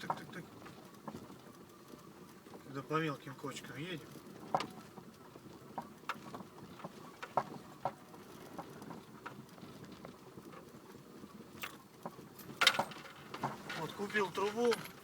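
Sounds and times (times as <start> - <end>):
low road noise: 0.0 - 15.0.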